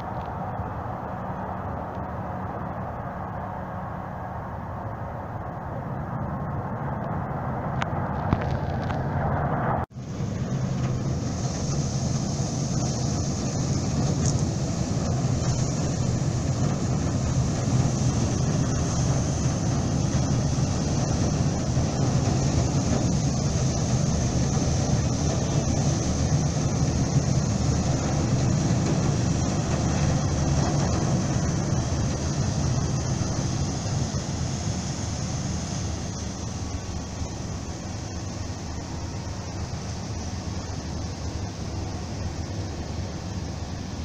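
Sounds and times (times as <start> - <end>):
ship engines rumbling: 0.0 - 44.0
steady high hiss: 0.0 - 44.0.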